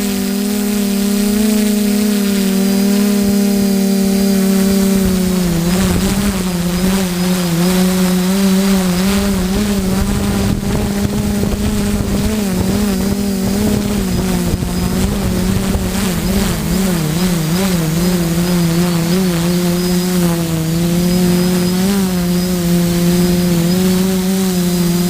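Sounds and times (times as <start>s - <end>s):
motor drone: 0.0s - 25.0s.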